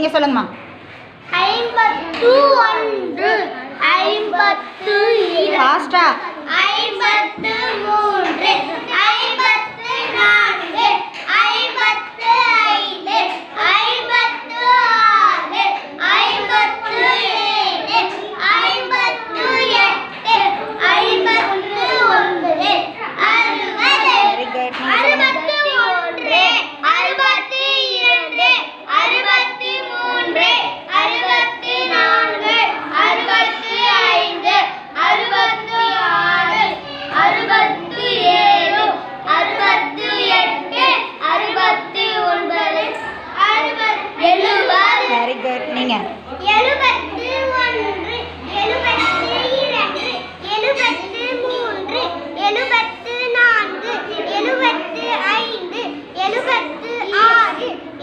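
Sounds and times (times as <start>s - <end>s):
child counting in sing-song chant: 1.3s - 5.6s, 6.2s - 58.0s.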